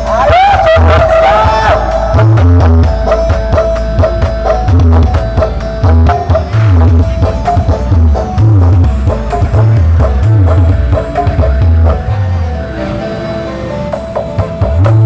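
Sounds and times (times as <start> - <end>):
hand drum percussion: 0.0 - 12.3, 14.0 - 15.0
heavy bass beats: 0.0 - 12.4, 14.2 - 15.0
wavering bending melody: 0.0 - 15.0.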